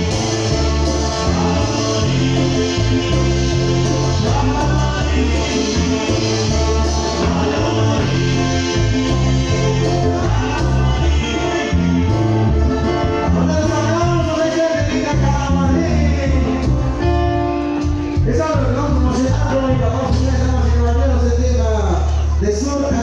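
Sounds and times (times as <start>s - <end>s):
congas timbales and drum kit: 0.0s - 23.0s
live cumbia band playing: 0.0s - 23.0s.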